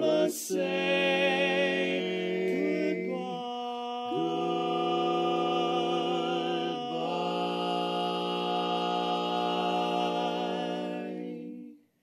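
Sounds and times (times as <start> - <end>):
male quartet singing a cappella: 0.0 - 11.9.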